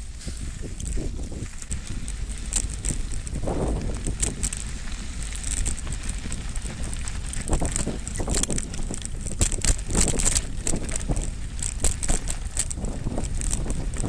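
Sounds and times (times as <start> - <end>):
bike tyres and frame rattling: 0.0 - 14.0
wind buffeting microphone: 0.0 - 14.0.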